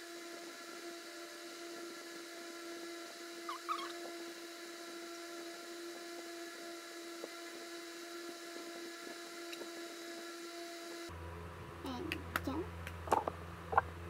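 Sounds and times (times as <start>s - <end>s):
electric fan whirring hum: 0.0s - 14.0s.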